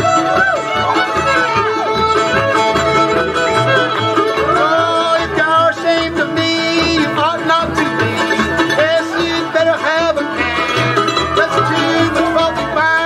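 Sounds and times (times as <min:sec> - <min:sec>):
acoustic guitar: 0:00.0 - 0:13.0
fiddle: 0:00.0 - 0:13.0
mandolin: 0:00.0 - 0:13.0
upright bass: 0:00.0 - 0:13.0.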